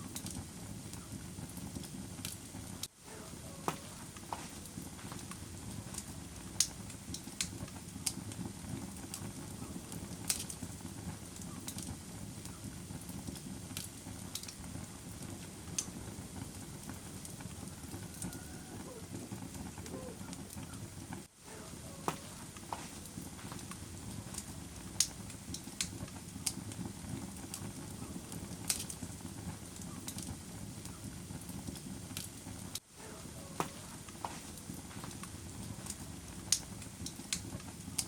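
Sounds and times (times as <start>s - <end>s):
fire crackles and pops: 0.0s - 38.0s
rumble of fire flames: 0.0s - 38.0s.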